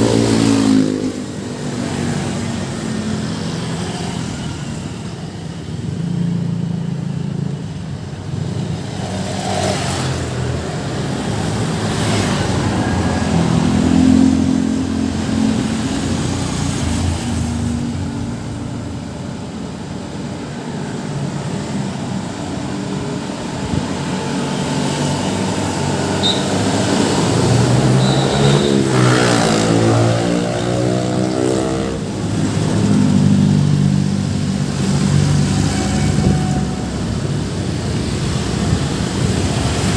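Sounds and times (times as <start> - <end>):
vehicle engines running: 0.0 - 39.9.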